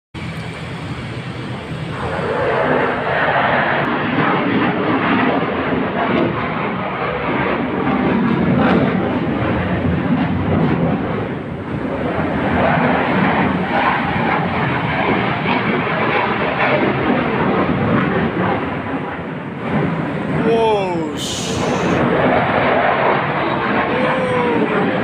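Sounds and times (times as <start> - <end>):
fighter jet flying past: 0.2 - 25.0.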